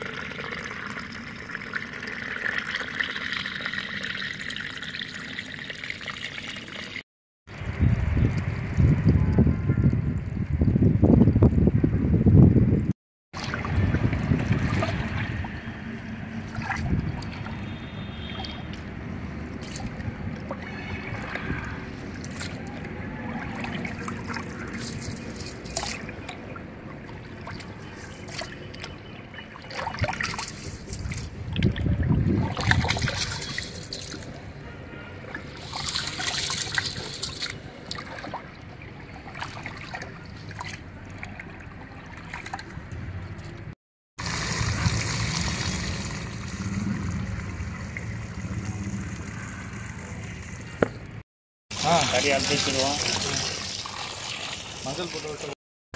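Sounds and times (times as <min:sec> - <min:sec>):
water sloshing and trickling: 0:00.0 - 0:11.8, 0:13.3 - 0:55.6.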